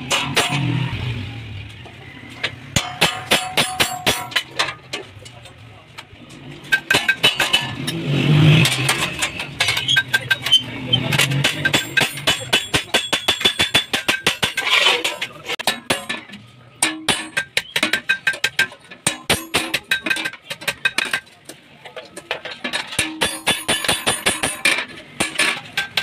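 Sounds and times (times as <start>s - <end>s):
hammer striking steel: 0.0s - 0.9s, 2.7s - 4.8s, 6.7s - 21.3s, 22.7s - 26.0s.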